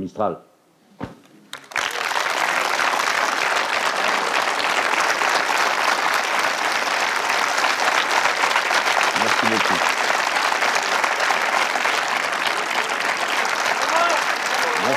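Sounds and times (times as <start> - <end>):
crowd applauding: 1.5 - 14.9.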